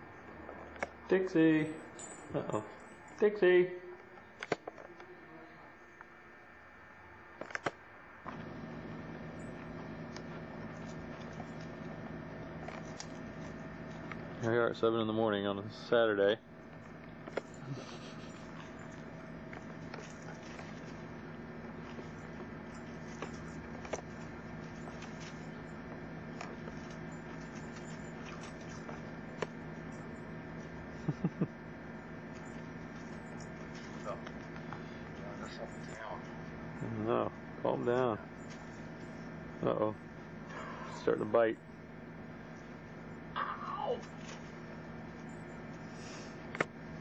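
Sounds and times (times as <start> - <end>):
steady low hum with hiss: 0.0 - 47.0.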